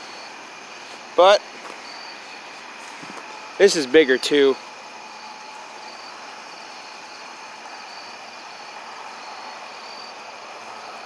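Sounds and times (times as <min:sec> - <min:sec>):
crickets chirping: 0:00.0 - 0:11.0
outdoor hiss: 0:00.0 - 0:11.0.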